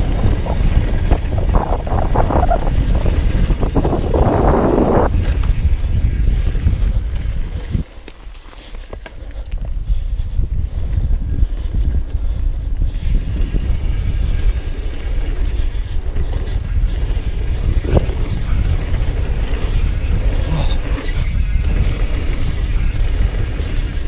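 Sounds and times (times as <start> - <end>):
bike tyres rumbling on dirt: 0.0 - 24.0
wind buffeting microphone: 0.0 - 24.0.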